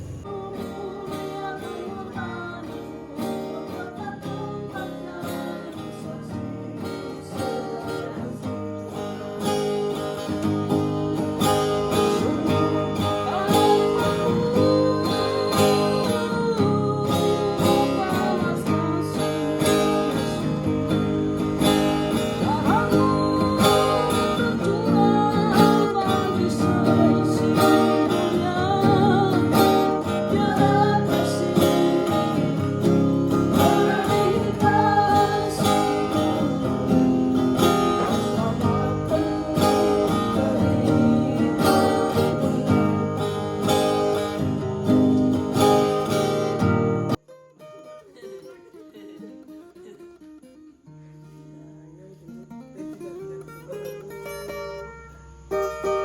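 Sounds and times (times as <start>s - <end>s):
song with strummed acoustic guitar: 0.0s - 56.0s.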